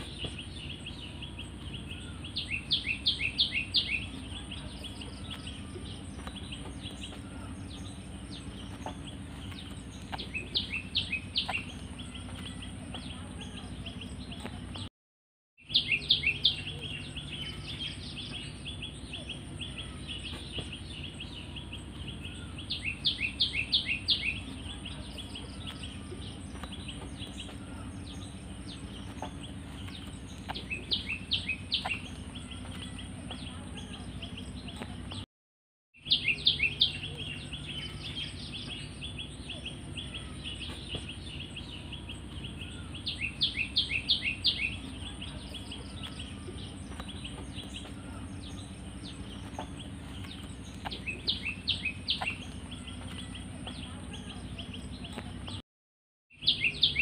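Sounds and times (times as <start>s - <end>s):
small bird chirping: 0.0s - 14.9s, 15.6s - 35.3s, 36.0s - 55.6s, 56.3s - 57.0s.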